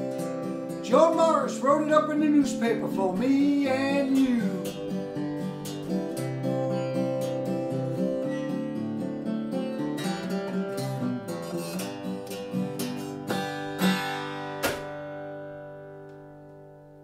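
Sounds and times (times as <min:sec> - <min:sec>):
acoustic guitar picking and strumming: 0:00.0 - 0:17.0.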